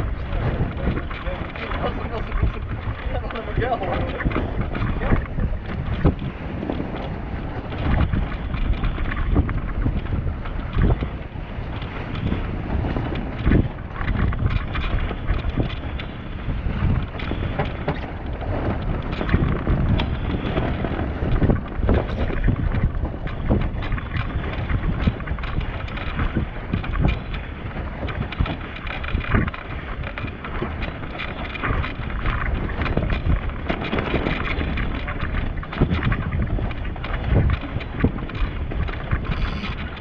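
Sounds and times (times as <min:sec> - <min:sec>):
water splashing along hull: 0:00.0 - 0:40.0
wind buffeting microphone: 0:00.0 - 0:40.0.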